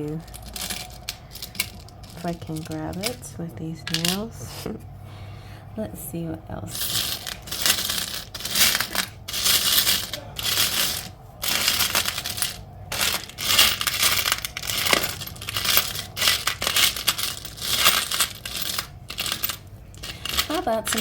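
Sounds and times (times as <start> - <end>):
metal charms jingling and clinking: 0.0 - 4.6, 6.7 - 21.0.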